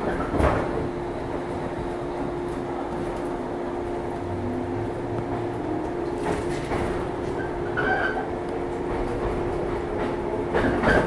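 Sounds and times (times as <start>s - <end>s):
electric train equipment humming: 0.0s - 11.0s.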